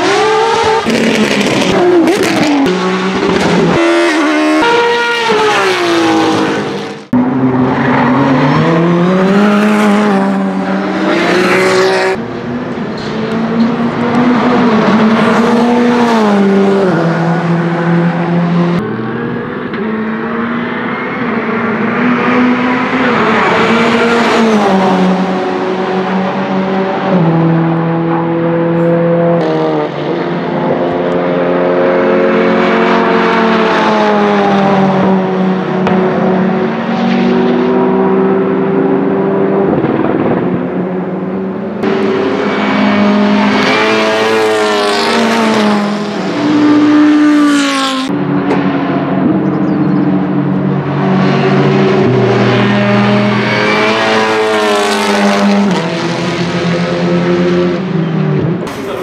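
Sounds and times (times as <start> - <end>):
race car engine upshifting: 0.0 - 59.0.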